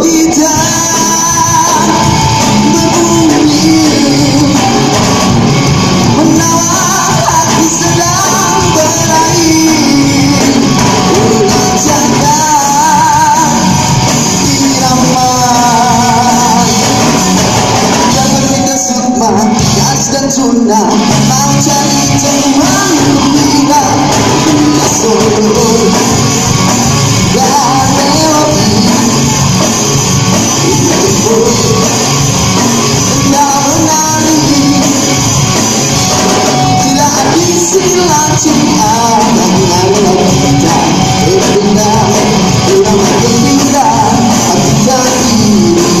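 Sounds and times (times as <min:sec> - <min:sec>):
lead singer singing: 0:00.0 - 0:46.0
live band playing: 0:00.0 - 0:46.0.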